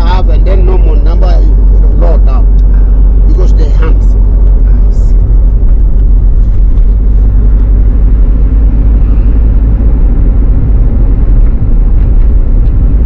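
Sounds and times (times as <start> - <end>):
car rumbling on dirt road: 0.0 - 13.0.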